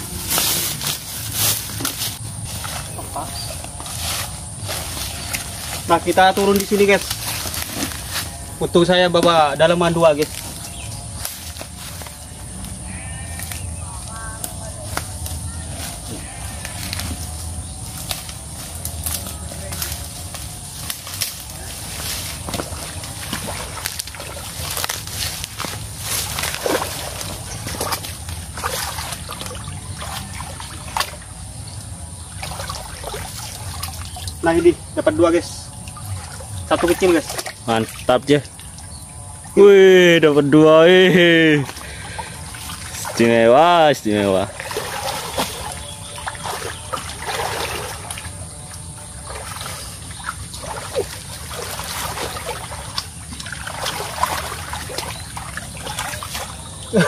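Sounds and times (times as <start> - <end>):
water splashing and trickling: 0.0 - 15.6, 17.9 - 57.0.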